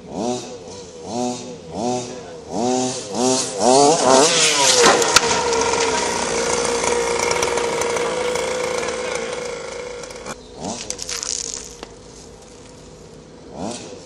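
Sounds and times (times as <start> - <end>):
small two-stroke engine revving: 0.0 - 11.8, 13.3 - 14.0.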